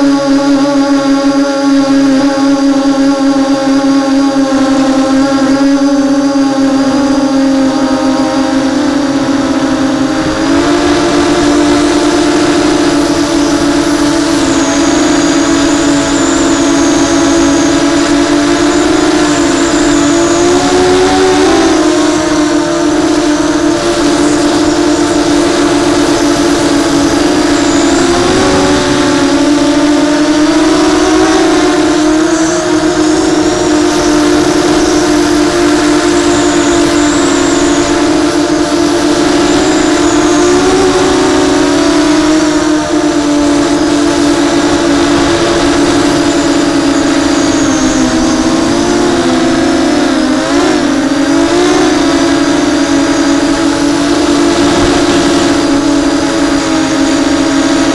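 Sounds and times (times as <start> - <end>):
drone motors buzzing whine: 0.0 - 57.9.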